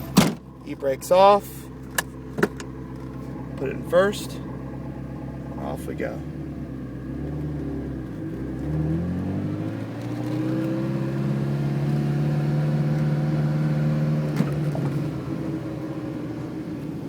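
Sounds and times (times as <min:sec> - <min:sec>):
sports car engine pulling away: 0:00.0 - 0:17.0.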